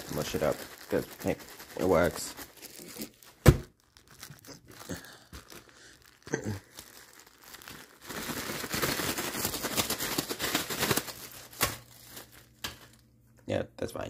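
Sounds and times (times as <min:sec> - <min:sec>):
plastic bag crinkling: 0:00.0 - 0:13.1.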